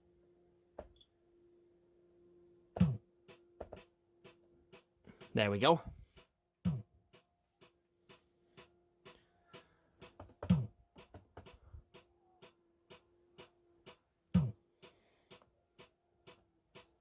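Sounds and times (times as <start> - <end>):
clicking drum machine beat: 2.8 - 17.0.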